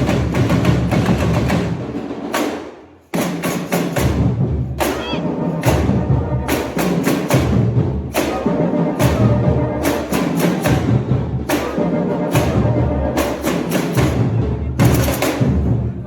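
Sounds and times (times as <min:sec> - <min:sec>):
samba drums playing: 0:00.0 - 0:16.0.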